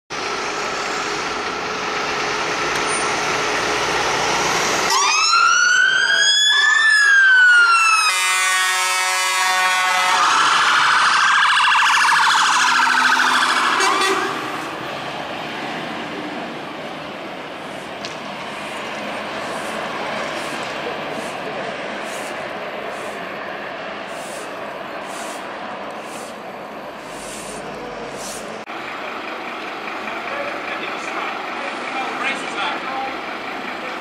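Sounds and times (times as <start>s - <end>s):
fire engine sirens wailing: 0.2s - 34.0s.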